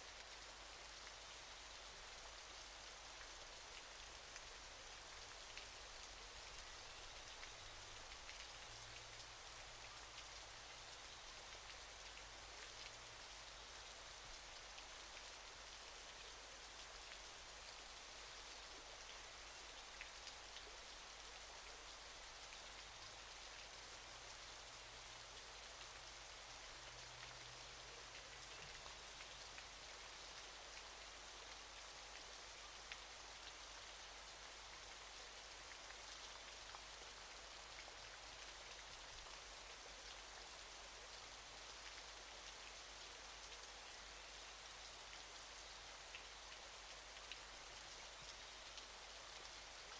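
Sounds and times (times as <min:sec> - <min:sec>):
waterfall hiss: 0:00.0 - 0:49.9.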